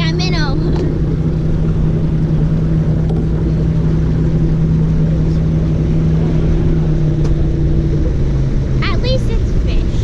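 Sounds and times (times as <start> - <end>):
boat motor running: 0.0 - 10.0.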